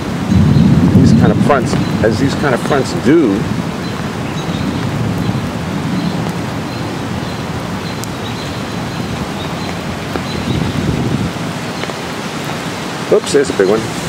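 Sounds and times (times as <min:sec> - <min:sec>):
distant thunder rumble: 0:00.0 - 0:14.0
rain-like noise: 0:00.0 - 0:14.0.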